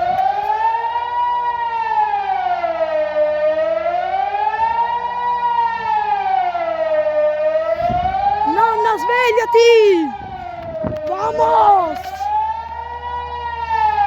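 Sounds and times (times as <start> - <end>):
wailing civil defence siren: 0.0 - 9.4, 10.2 - 14.0.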